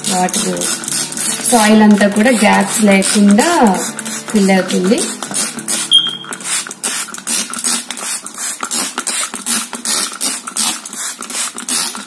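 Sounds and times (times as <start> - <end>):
spray bottle spritzing: 0.2 - 12.0.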